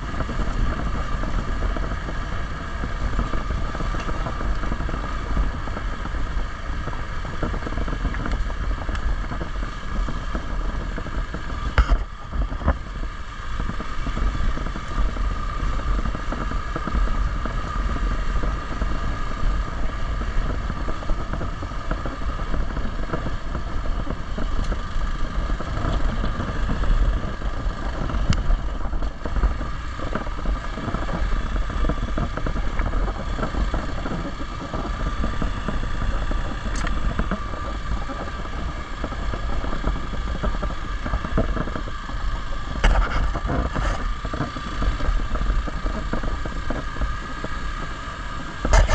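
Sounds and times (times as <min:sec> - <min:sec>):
motorcycle engine running: 0:00.0 - 0:48.9
wind rumbling on microphone: 0:00.0 - 0:48.9.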